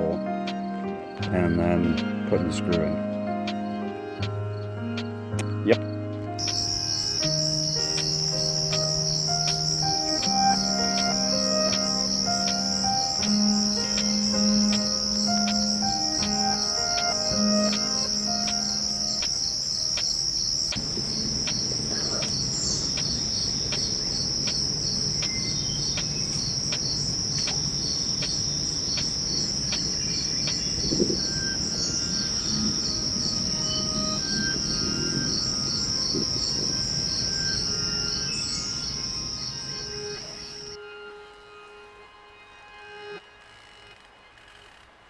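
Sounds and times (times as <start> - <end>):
insects trilling: 0.0 - 40.8.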